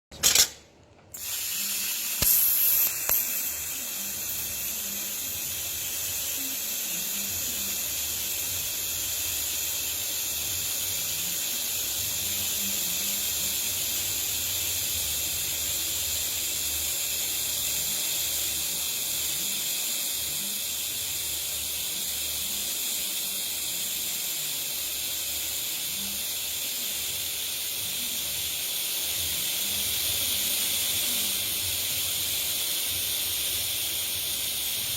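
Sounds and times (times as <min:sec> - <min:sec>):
welding arc hissing: 0:00.2 - 0:34.9
welding arc crackle: 0:01.2 - 0:34.9.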